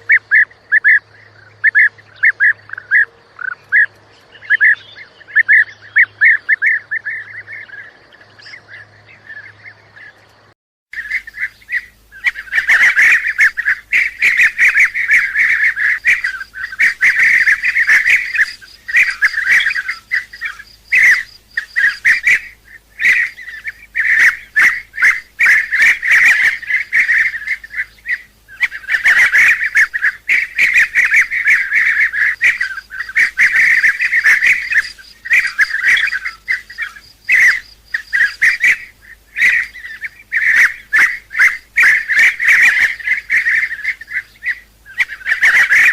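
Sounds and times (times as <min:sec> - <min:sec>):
bee-eaters calling: 0:00.0 - 0:10.4, 0:11.0 - 0:45.9.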